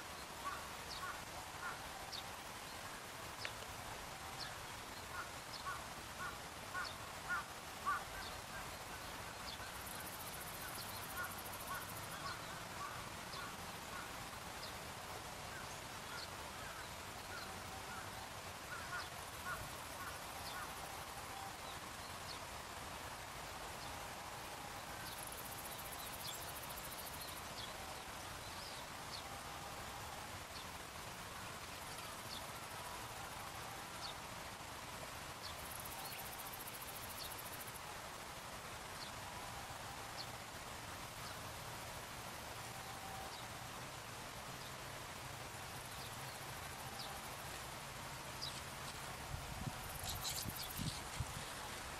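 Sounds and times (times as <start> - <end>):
faint steady hiss: 0.0 - 51.9.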